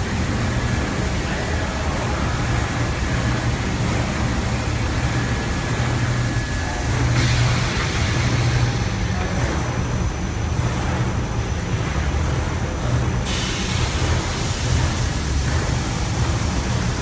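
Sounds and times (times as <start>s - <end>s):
carpet washing machine rushing: 0.0s - 17.0s
low motor hum: 0.0s - 17.0s.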